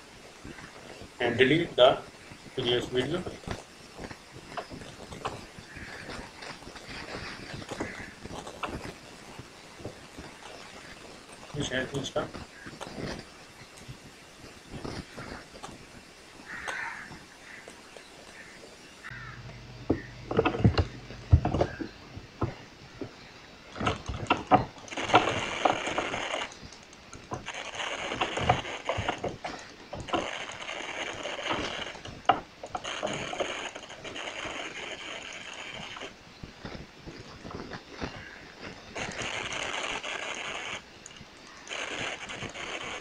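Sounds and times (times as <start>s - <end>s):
background hiss: 0.0s - 43.0s.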